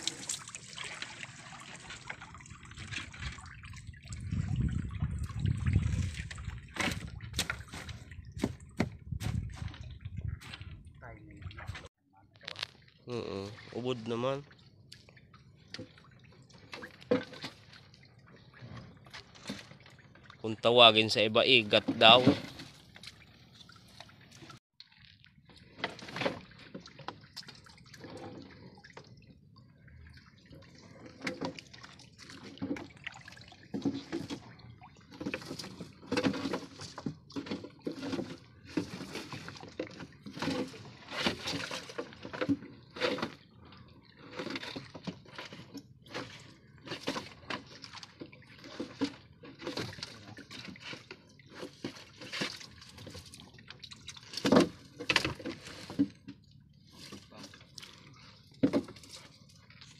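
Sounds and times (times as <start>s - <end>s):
seawater splashing and dripping: 0.0s - 59.9s.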